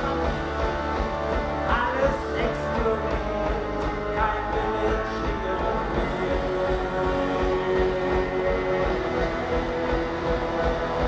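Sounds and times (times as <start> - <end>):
drums: 0.0 - 11.0
electric guitars: 0.0 - 11.0.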